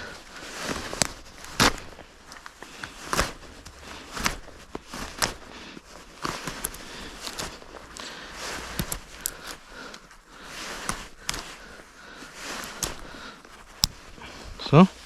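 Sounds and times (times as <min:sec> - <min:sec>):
rustling on forest floor: 0:00.0 - 0:15.0.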